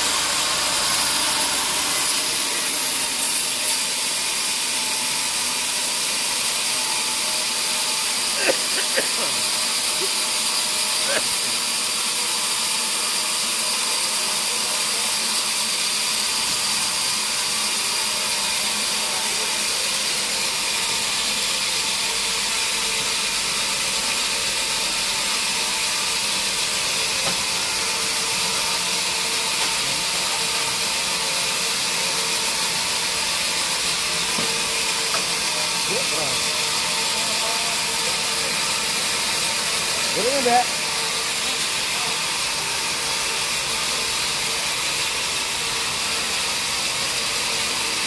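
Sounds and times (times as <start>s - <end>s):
sawmill machinery whine: 0.0s - 48.0s.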